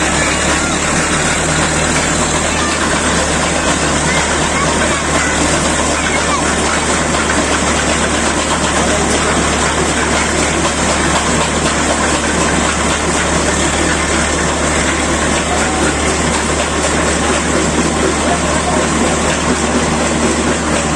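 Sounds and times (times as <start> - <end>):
engine-driven drilling machine: 0.0 - 20.9.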